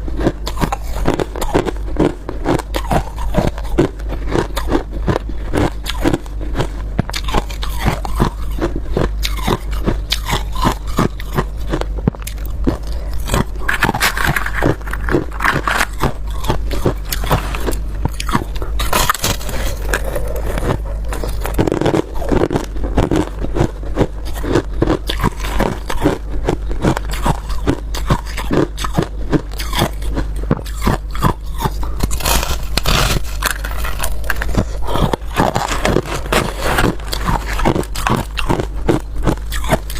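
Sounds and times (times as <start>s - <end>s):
steady low hum: 0.0s - 39.9s
person crunching ice: 0.1s - 39.9s.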